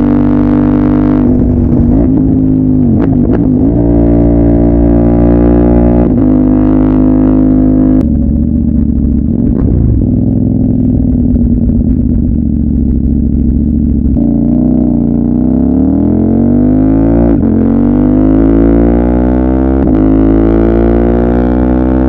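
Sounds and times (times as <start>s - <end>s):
motorcycle engine deep exhaust note: 0.0s - 22.0s.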